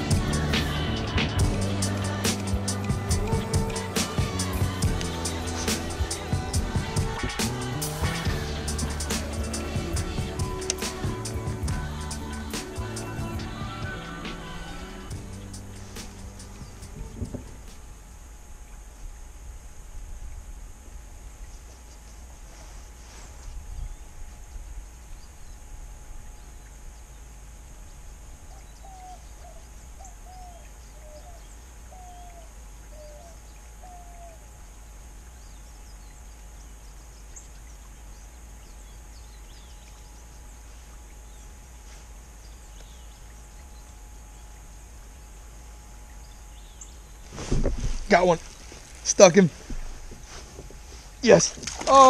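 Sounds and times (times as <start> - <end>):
distant bird calling: 0.0 - 19.0, 23.8 - 52.0
steady hiss: 0.0 - 52.0.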